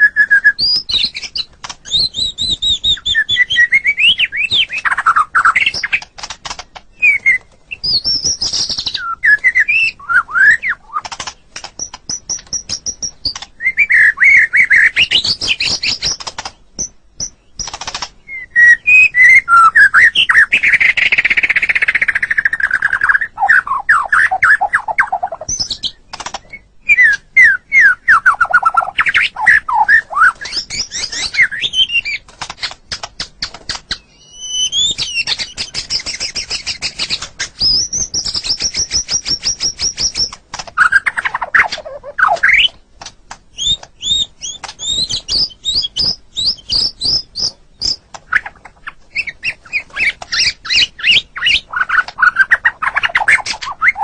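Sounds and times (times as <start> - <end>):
songbird singing varied song: 0.0 - 42.9, 43.5 - 54.0.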